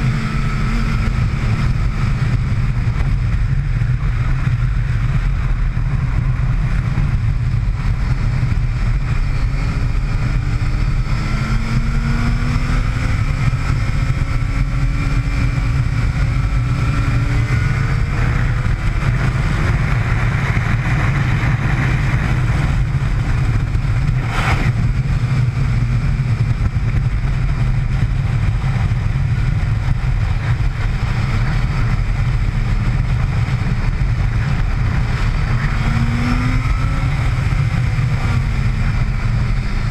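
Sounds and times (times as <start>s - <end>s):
motorcycle engine at speed: 0.0s - 39.9s
wind rumble on microphone: 0.0s - 39.9s.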